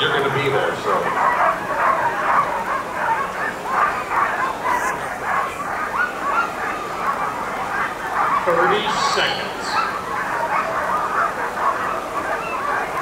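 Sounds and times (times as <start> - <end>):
sled dogs barking and yipping: 0.0 - 13.0.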